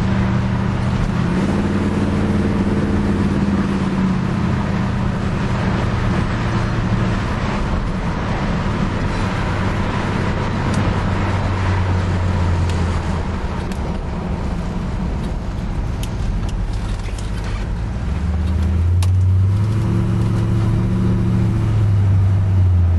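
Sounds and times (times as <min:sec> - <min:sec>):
car engine and exhaust running: 0:00.0 - 0:22.9.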